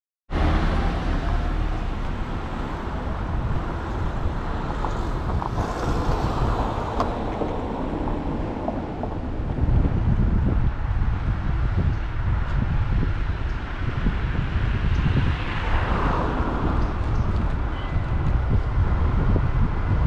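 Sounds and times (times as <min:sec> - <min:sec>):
car engine and road noise: 0:00.3 - 0:20.0.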